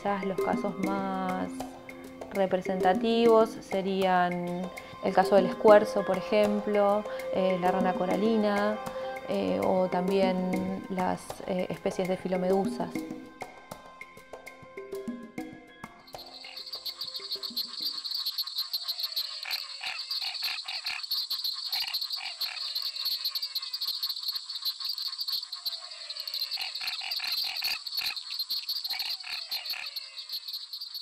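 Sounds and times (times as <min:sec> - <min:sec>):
clicking frog calls: 0:00.0 - 0:13.1, 0:16.0 - 0:31.0.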